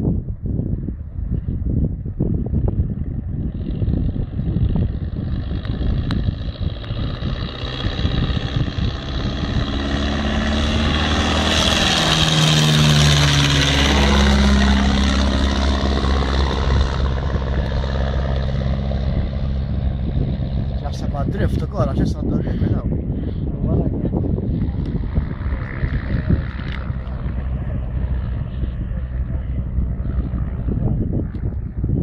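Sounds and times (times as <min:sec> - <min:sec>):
biplane engine and propeller: 0:00.0 - 0:32.0
wind buffeting microphone: 0:00.0 - 0:32.0.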